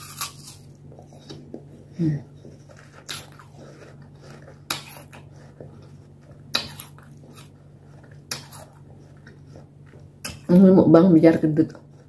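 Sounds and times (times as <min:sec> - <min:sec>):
person chewing food: 0:00.0 - 0:10.6, 0:11.7 - 0:12.0
low room hum: 0:00.0 - 0:12.0.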